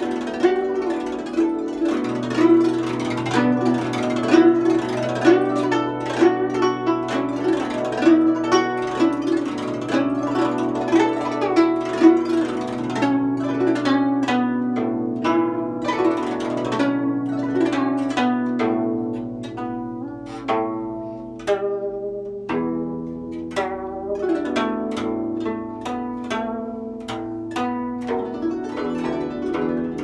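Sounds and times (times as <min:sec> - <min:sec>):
plucked zither notes: 0:00.0 - 0:30.0.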